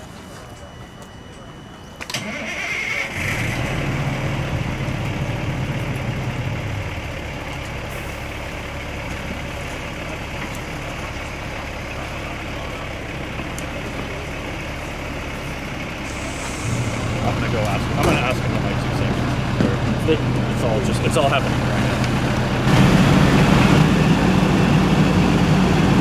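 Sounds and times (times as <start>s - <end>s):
large vehicle engine humming: 2.1s - 26.0s.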